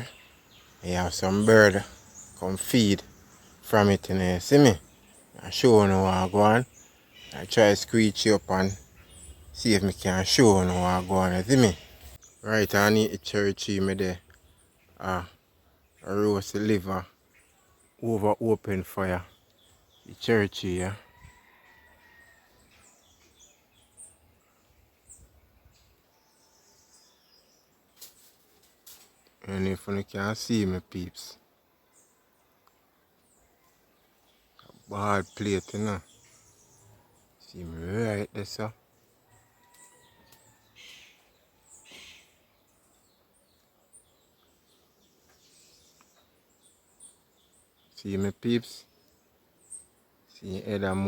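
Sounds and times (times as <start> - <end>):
faint bird chirps: 0.0 - 51.0.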